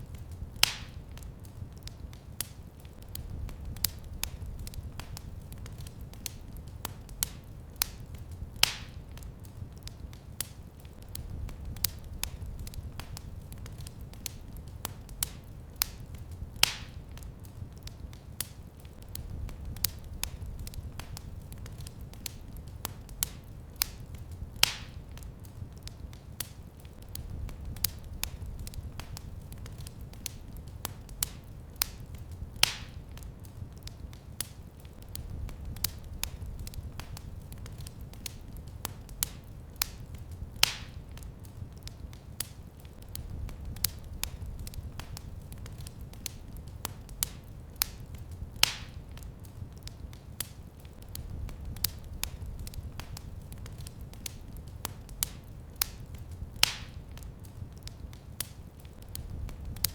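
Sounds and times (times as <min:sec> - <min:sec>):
low rumble of flame: 0:00.0 - 0:59.9
wood fire crackling: 0:00.0 - 0:59.9.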